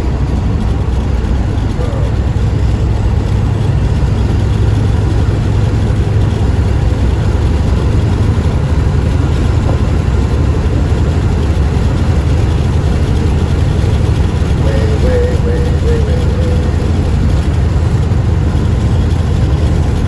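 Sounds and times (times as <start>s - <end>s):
road noise: 0.0s - 20.0s
truck diesel engine rumble: 0.0s - 20.0s.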